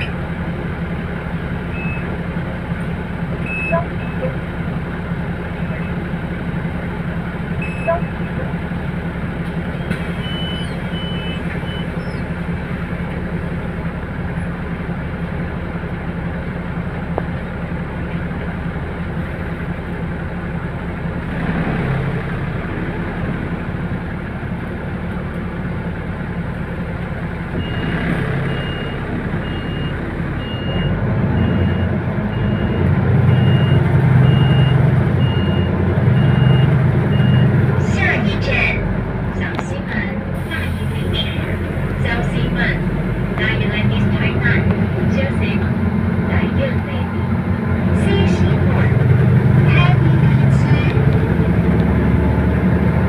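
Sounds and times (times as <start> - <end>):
bus engine drone: 0.0 - 53.0.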